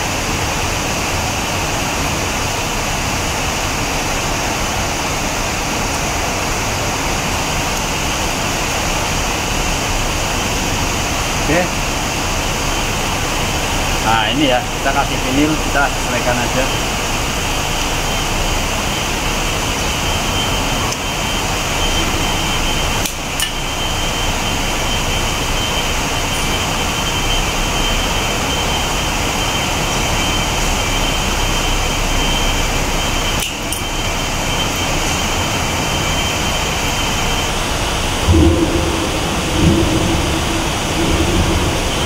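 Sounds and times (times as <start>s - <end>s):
running machinery: 0.0s - 42.0s
thin high whine: 0.0s - 42.0s.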